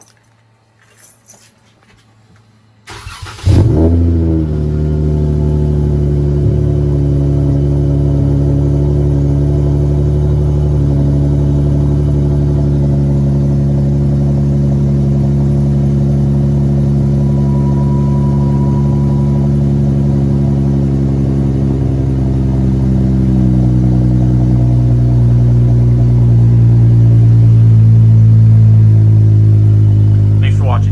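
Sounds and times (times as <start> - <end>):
car engine starting and idling: 2.8 - 30.9.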